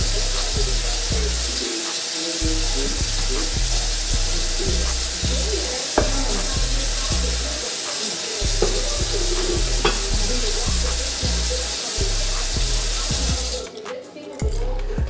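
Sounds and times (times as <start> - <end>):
steady hiss: 0.0 - 13.6
hip-hop instrumental beat: 0.0 - 15.0.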